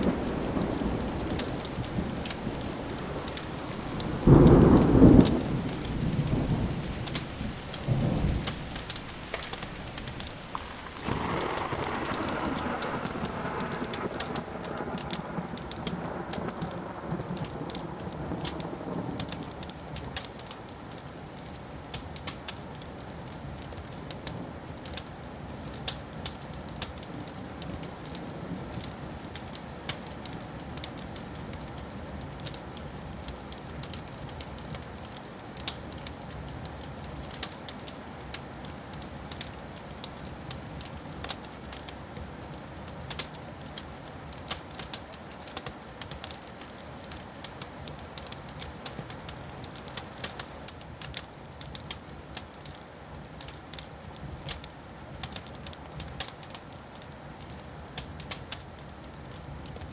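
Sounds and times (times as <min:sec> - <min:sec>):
wood fire crackling: 0:00.0 - 0:18.6, 0:19.2 - 0:59.9.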